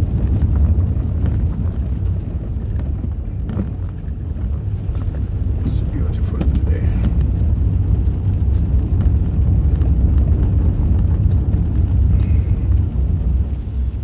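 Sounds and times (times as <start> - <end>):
loud steady low rumble: 0.0 - 14.0.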